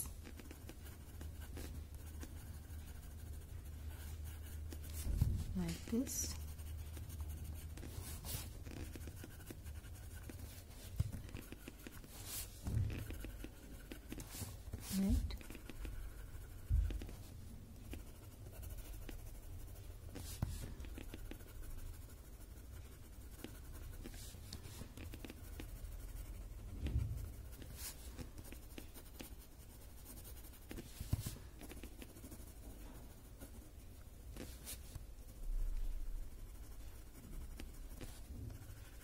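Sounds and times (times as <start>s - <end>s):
pencil scratching on paper: 0.0s - 39.0s.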